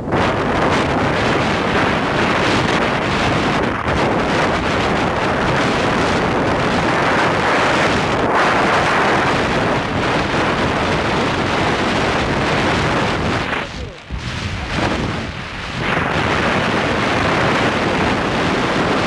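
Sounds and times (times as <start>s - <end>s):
motorcycle engine and road noise: 0.0s - 19.0s
wind rushing over microphone: 0.0s - 19.0s.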